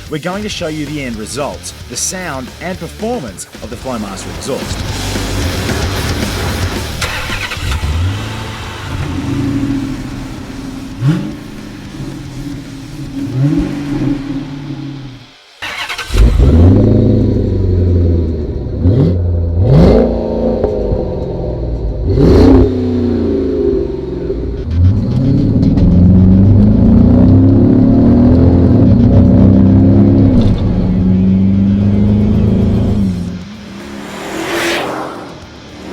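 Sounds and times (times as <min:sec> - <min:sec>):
car engine revving: 0:00.7 - 0:35.9.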